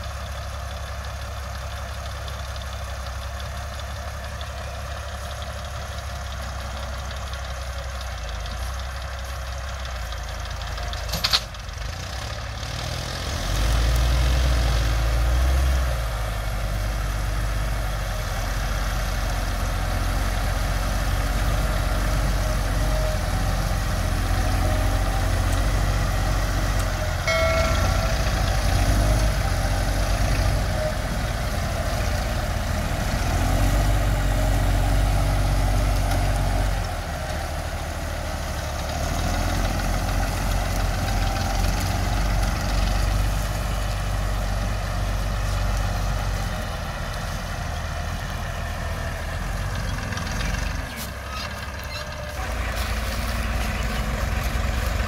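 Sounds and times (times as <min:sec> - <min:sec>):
tractor diesel engines rumbling: 0:00.0 - 0:55.0.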